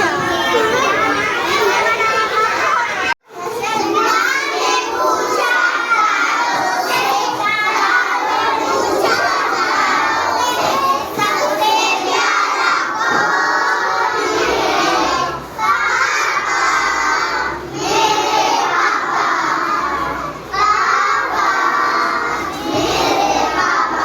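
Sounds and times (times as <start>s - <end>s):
children singing in unison: 0.0s - 24.0s.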